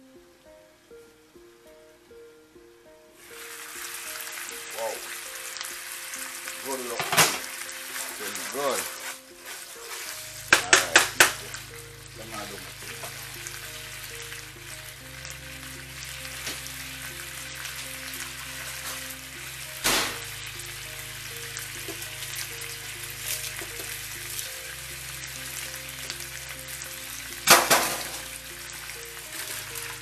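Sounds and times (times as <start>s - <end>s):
food sizzling in a frying pan: 3.2s - 30.0s.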